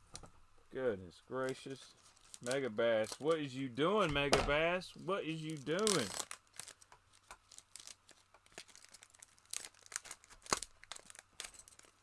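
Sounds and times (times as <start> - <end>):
plastic packaging crinkling: 1.4 - 3.8, 4.5 - 12.0.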